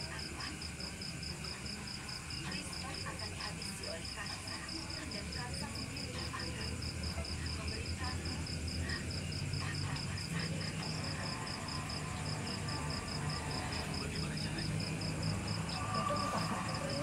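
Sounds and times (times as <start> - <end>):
insect chirping trill: 0.0 - 17.0.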